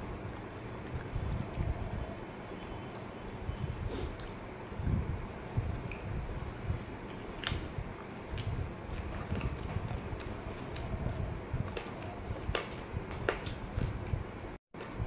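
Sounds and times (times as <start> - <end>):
person chewing food: 0.2 - 4.4, 5.1 - 14.1.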